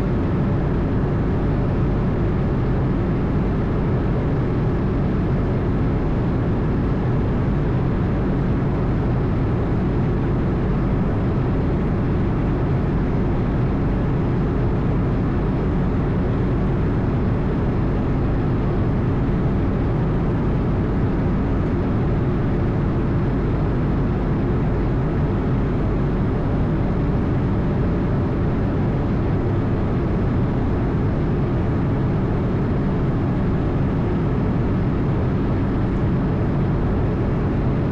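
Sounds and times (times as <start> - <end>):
aircraft cabin engine rumble: 0.0 - 37.9.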